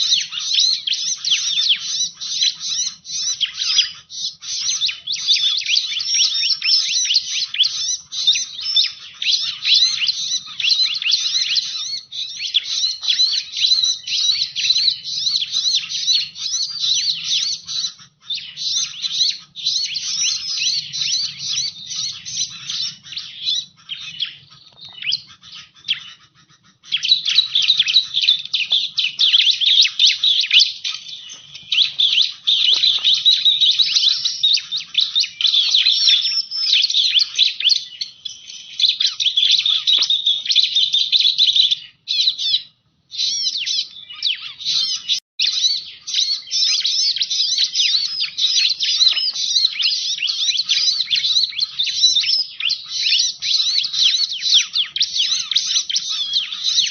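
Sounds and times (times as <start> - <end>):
bird song chirps and trills: 0.0 - 56.9.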